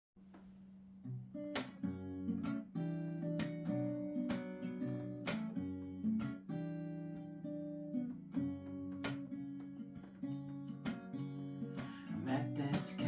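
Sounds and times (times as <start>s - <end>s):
acoustic guitar strumming chords: 1.1s - 13.0s.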